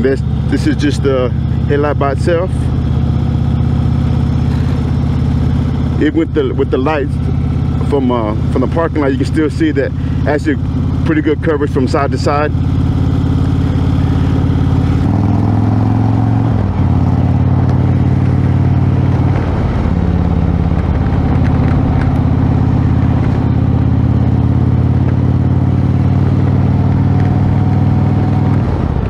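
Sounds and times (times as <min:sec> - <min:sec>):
motorcycle engine running: 0:00.0 - 0:29.0
wind and road noise: 0:00.0 - 0:29.0.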